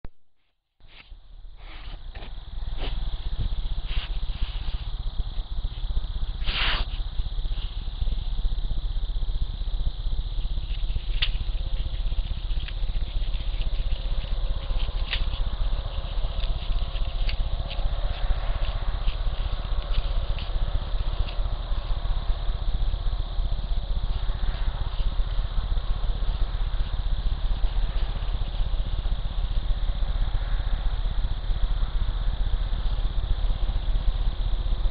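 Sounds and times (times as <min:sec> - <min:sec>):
low electrical hum: 0:00.1 - 0:34.9
sharp ticks: 0:02.5 - 0:34.9.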